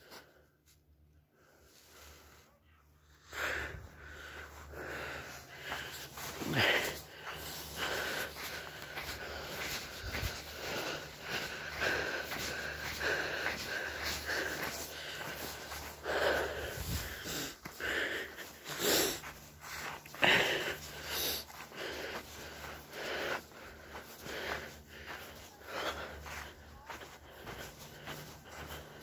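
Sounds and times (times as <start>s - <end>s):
person breathing heavily: 0.0s - 29.0s
steady low hum: 3.4s - 29.0s.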